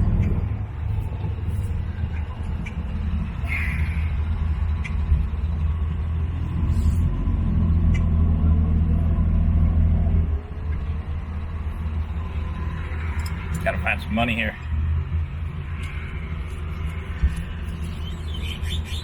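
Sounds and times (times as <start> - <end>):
car engine revving and idling: 0.0 - 18.9.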